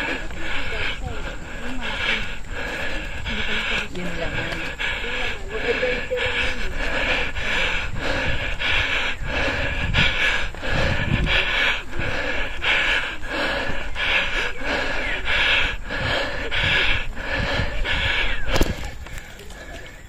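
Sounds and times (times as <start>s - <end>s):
person panting hard: 0.0s - 20.0s
wind rumble on microphone: 2.3s - 20.0s.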